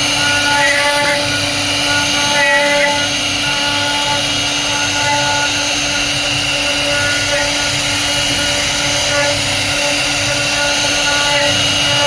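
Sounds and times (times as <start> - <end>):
router spindle whine: 0.0 - 12.0.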